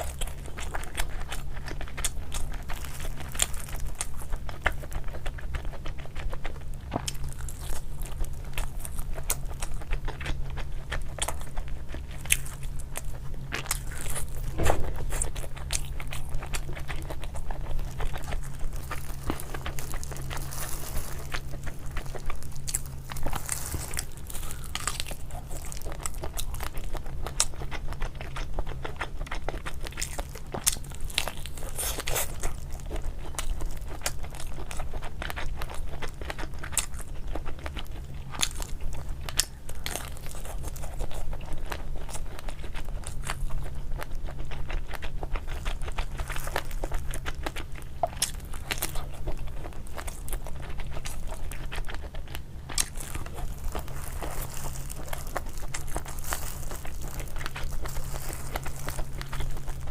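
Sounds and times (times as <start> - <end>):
low steady hum: 0.0 - 59.9
person chewing crunchy food: 0.0 - 59.9.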